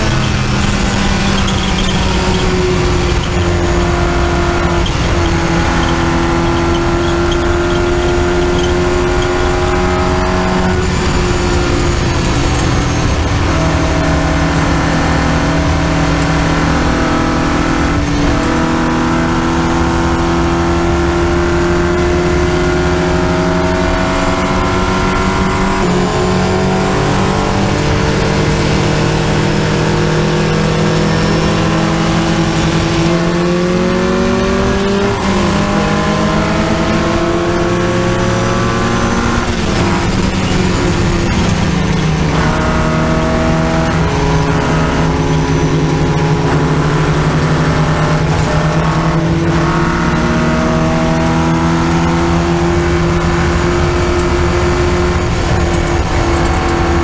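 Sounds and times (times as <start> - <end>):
racing car engine accelerating: 0.0 - 57.0.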